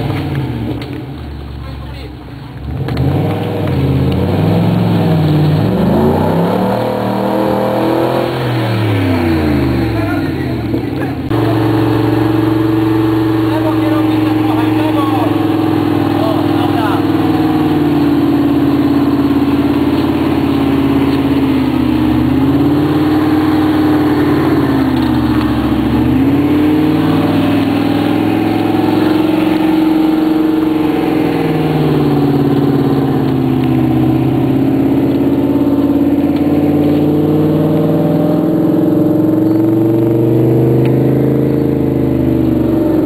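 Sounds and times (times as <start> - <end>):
engine revving under load: 2.6 - 43.0.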